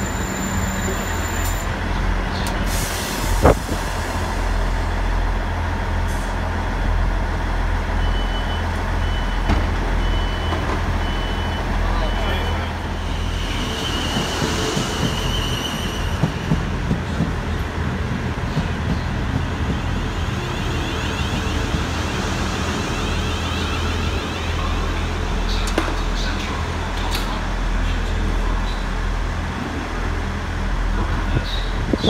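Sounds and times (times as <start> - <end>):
train running hum: 0.0 - 32.0.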